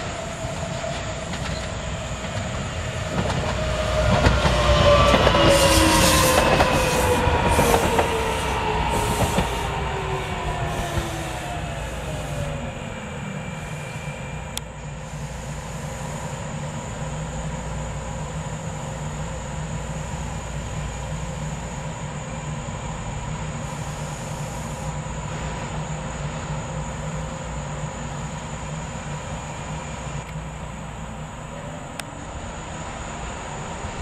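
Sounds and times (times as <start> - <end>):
electric tram humming: 0.0 - 34.0
rail running noise: 0.0 - 34.0.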